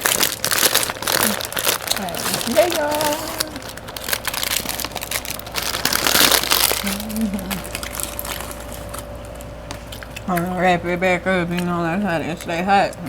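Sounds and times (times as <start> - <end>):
food wrapping crinkling: 0.0 - 13.0.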